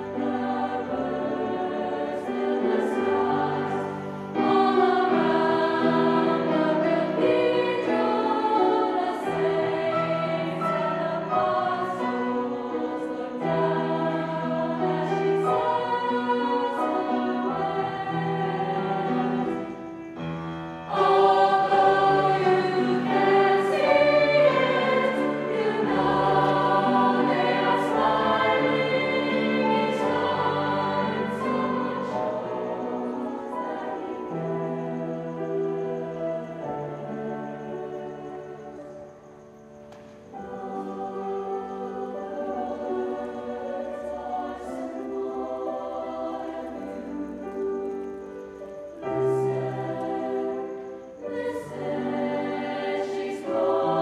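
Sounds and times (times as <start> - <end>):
mixed choir singing in harmony: 0.0 - 54.0.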